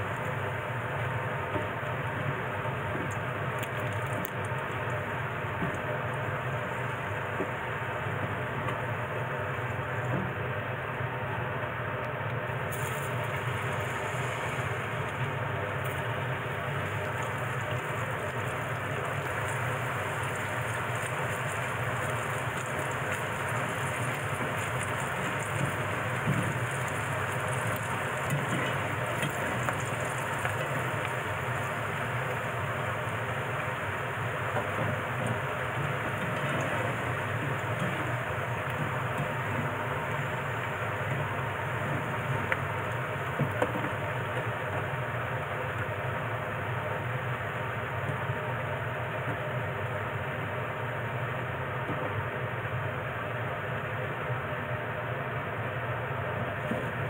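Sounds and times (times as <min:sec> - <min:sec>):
food deep-frying in hot oil: 0:00.0 - 0:57.0.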